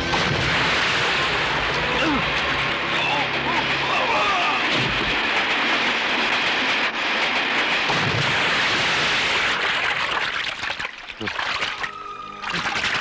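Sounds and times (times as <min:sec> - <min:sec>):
churning water rushing: 0:00.0 - 0:13.0.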